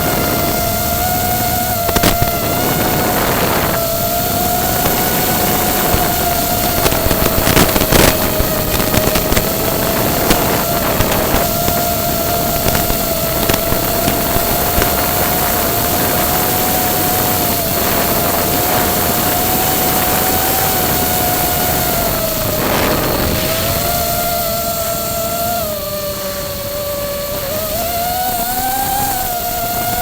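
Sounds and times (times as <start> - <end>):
rushing noise: 0.0 - 25.8
drone motors whining: 0.0 - 30.0.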